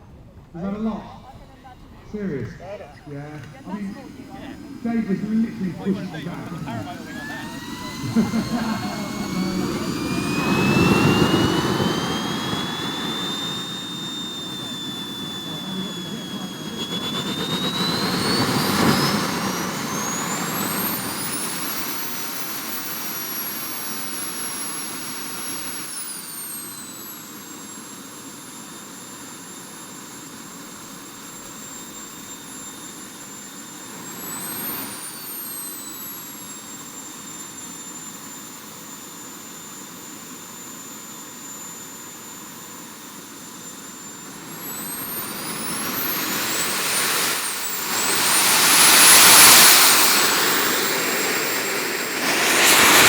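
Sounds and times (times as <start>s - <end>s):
model jet turbine whine: 0.0s - 53.0s.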